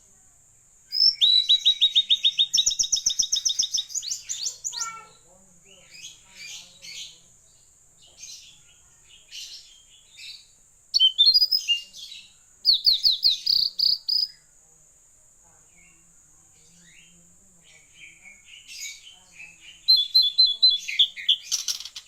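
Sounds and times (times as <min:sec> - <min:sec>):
bird singing rapid chirps: 0:00.9 - 0:05.2, 0:05.8 - 0:14.4, 0:16.6 - 0:22.0.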